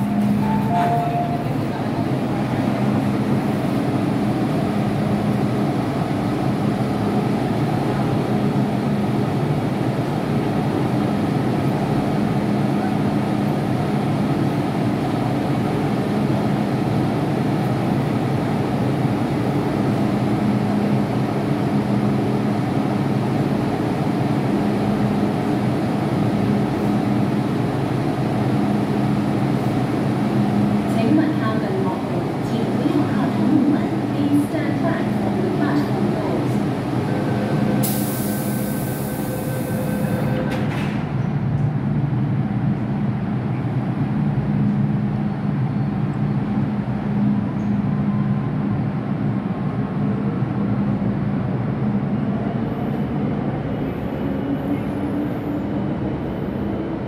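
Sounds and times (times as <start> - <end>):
electric metro train rumbling: 0.0 - 57.0.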